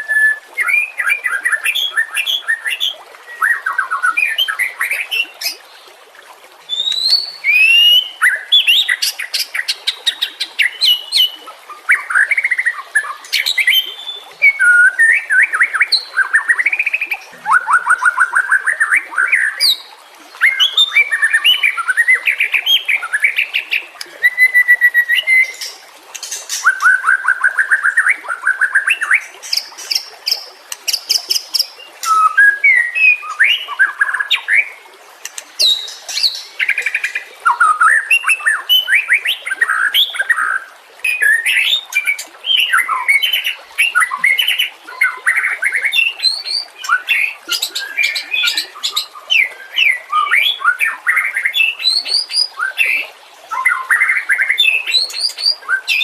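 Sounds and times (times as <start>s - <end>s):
bird singing varied song: 6.7s - 56.0s.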